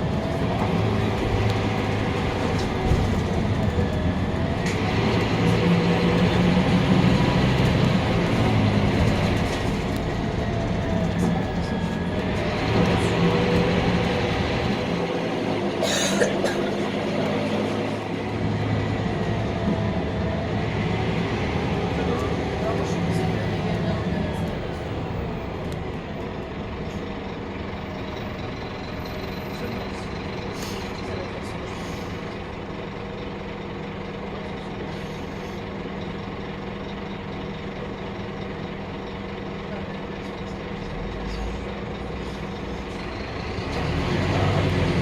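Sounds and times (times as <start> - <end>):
bus diesel engine running: 0.0 - 45.0.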